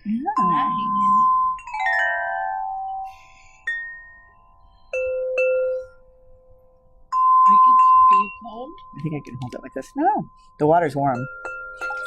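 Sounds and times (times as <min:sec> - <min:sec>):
crystal harp ringing notes: 0:00.4 - 0:12.0.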